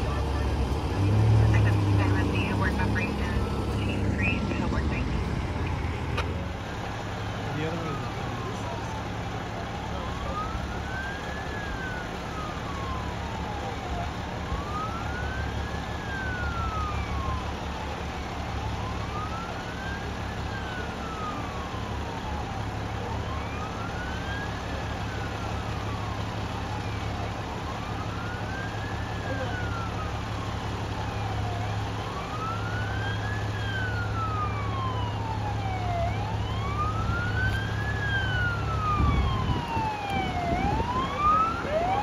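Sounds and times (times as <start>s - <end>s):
emergency siren wailing: 0.0s - 42.0s
engine and traffic rumble: 0.0s - 42.0s.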